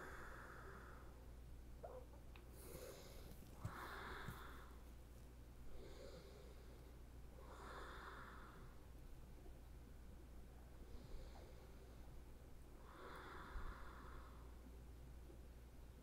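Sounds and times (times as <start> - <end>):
faint slow breathing: 0.0 - 9.0, 10.5 - 15.4
low steady hum: 0.0 - 16.0.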